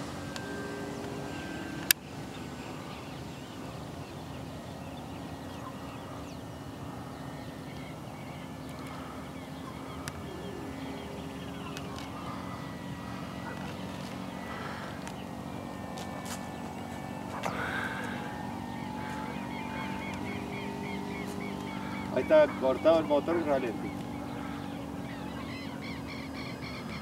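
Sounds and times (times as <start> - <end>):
model plane propeller drone: 0.0 - 27.0.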